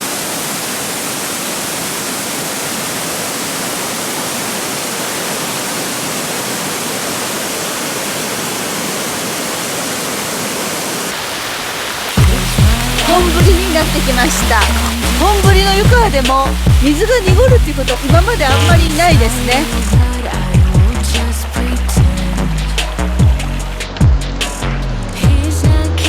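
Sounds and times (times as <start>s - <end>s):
mountain stream rushing: 0.0s - 25.2s.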